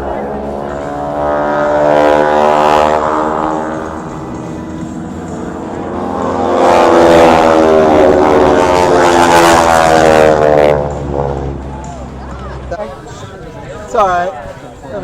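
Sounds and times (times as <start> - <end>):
propeller airplane passing low: 0.0 - 15.0.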